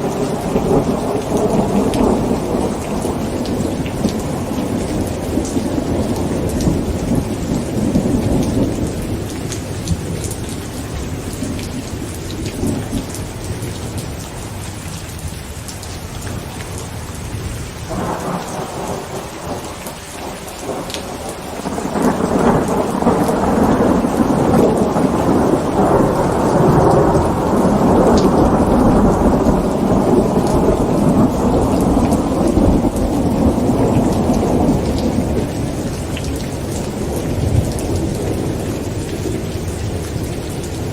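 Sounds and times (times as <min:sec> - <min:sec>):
rolling thunder: 0:00.0 - 0:14.0, 0:16.3 - 0:40.9
heavy rain pattering on a tent: 0:00.0 - 0:40.9.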